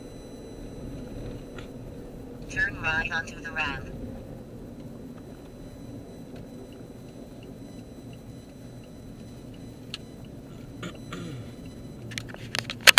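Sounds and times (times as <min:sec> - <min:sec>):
car engine and tyre rumble: 0:00.0 - 0:12.9
turn signal ticking: 0:00.0 - 0:12.9.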